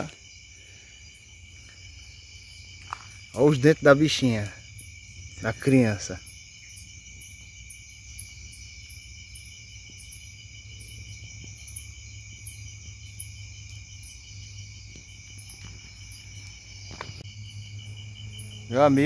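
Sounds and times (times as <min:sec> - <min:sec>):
insects chirping in chorus: 0:00.0 - 0:19.0.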